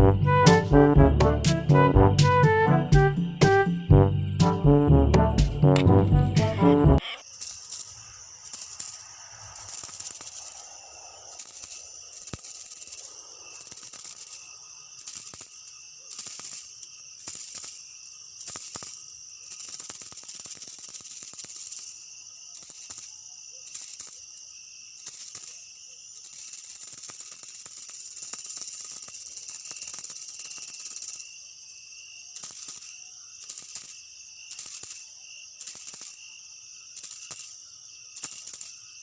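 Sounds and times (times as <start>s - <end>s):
insects trilling: 6.4s - 39.0s.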